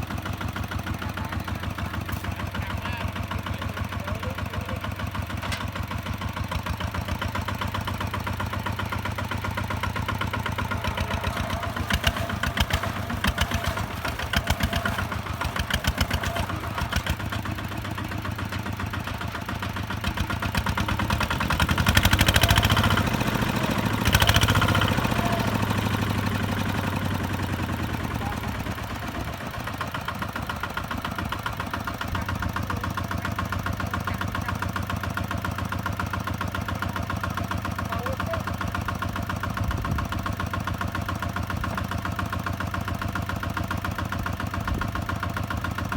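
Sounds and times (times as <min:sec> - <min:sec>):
diesel tractor engine chugging: 0:00.0 - 0:45.9.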